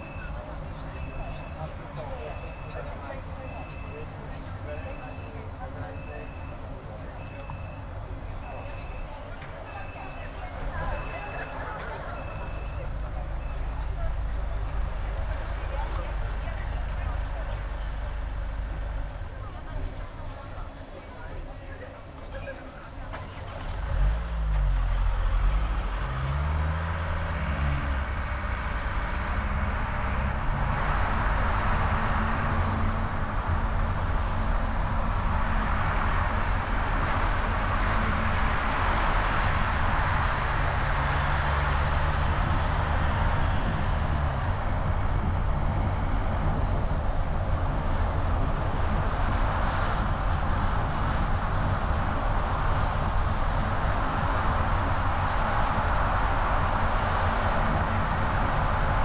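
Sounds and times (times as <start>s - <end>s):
car engine rumble: 0.0s - 59.0s
wind and road noise: 0.0s - 59.0s.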